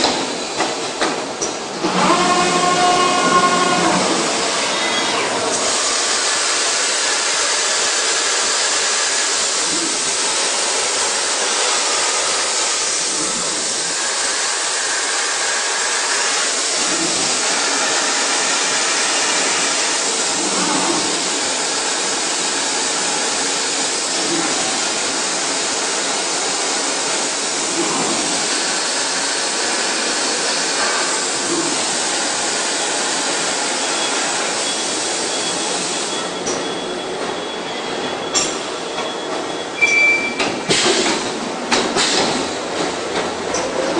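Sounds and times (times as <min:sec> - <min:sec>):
machine running with loud hiss: 0:00.0 - 0:43.9.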